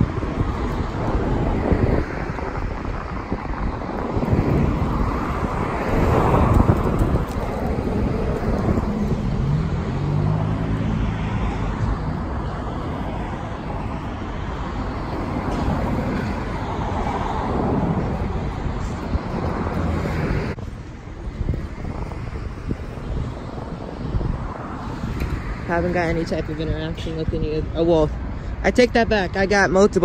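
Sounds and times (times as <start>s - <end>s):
vehicle engine hum passing: 0.0s - 27.3s
road traffic passing: 0.0s - 30.0s.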